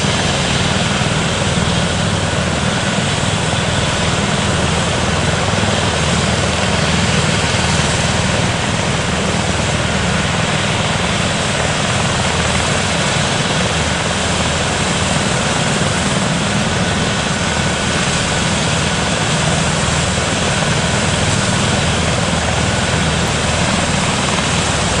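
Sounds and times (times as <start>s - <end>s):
helicopter engines and rotor: 0.0s - 25.0s.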